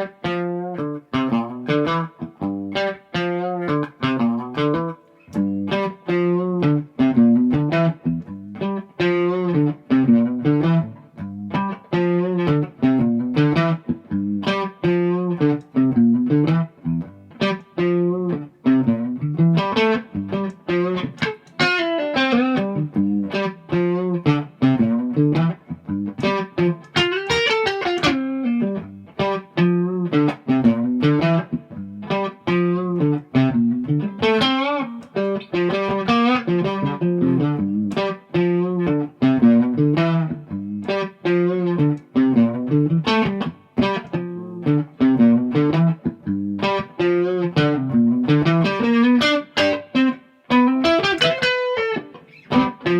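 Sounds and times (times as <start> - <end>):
electric guitar playing: 0.0 - 52.9.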